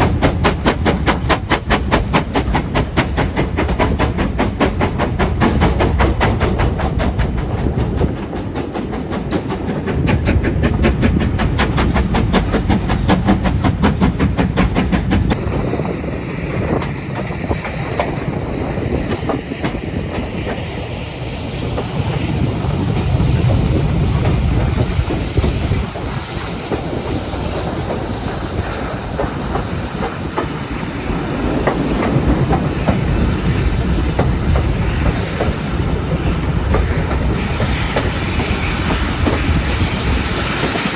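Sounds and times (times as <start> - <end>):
steam locomotive chuffing: 0.0 - 40.9
wheels rumbling on rail: 0.0 - 40.9.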